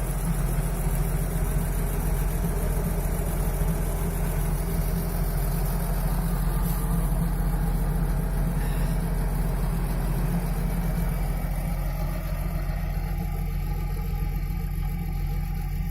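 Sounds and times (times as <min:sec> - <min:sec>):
truck engine idling: 0:00.0 - 0:15.9.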